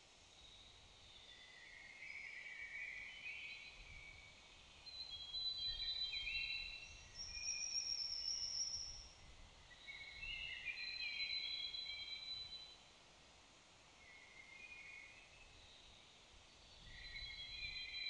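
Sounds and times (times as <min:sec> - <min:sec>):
songbirds singing: 0:00.4 - 0:12.8, 0:13.9 - 0:18.0.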